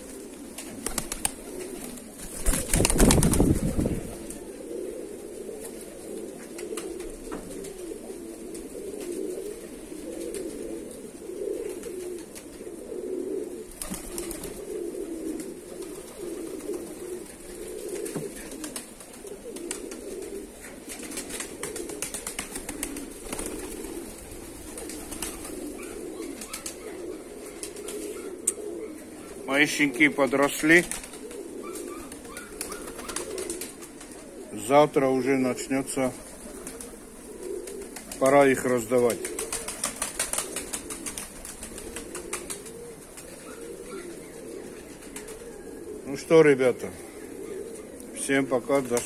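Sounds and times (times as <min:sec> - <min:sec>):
pigeons cooing: 0:00.0 - 0:49.0.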